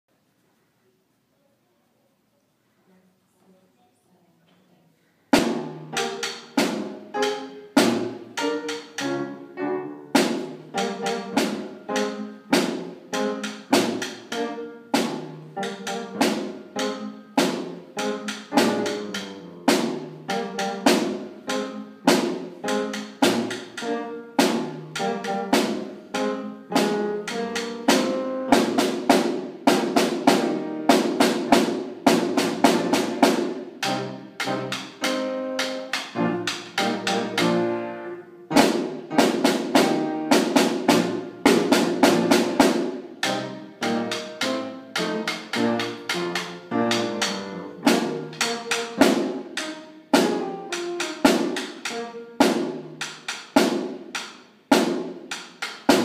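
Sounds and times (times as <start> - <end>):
snare drum played with sticks: 5.3 - 9.4, 10.0 - 56.0.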